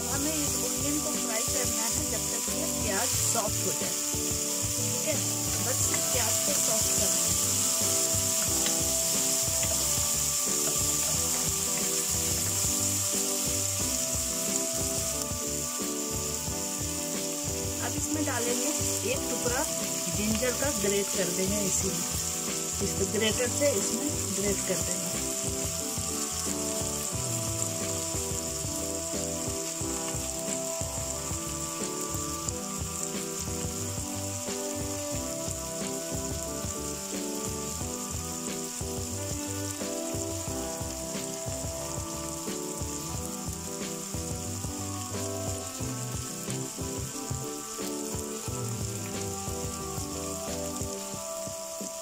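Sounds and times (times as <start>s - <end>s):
background music: 0.0s - 52.0s
onions sizzling in oil: 0.0s - 52.0s.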